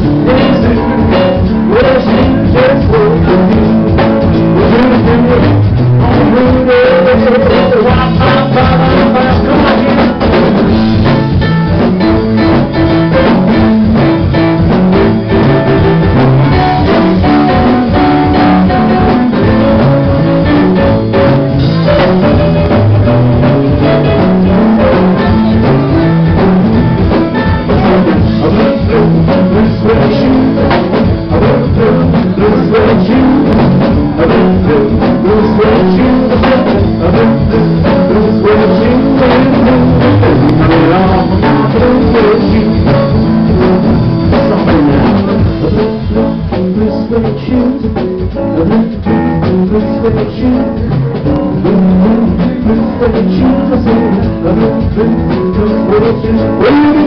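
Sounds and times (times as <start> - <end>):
country band playing: 0.0 - 57.0
drum beat: 0.0 - 57.0
electric guitar: 0.0 - 57.0
stage piano: 0.0 - 57.0.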